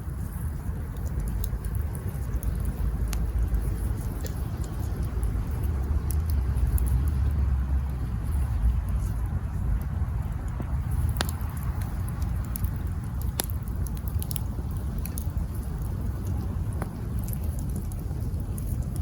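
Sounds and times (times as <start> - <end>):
campfire rumble: 0.0 - 19.0
fire crackles and pops: 0.0 - 19.0.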